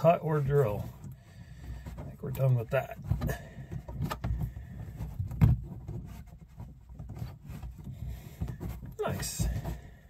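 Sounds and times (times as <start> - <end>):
scuffing and knocking on plastic: 0.0 - 10.0.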